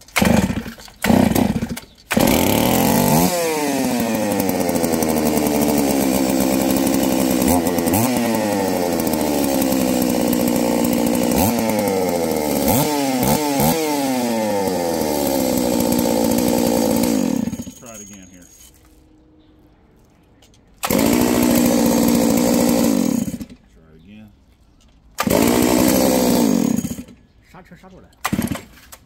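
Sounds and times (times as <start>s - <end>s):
chainsaw engine pull-started and revving: 0.0s - 18.6s, 20.8s - 23.6s, 25.2s - 27.2s, 28.2s - 29.0s.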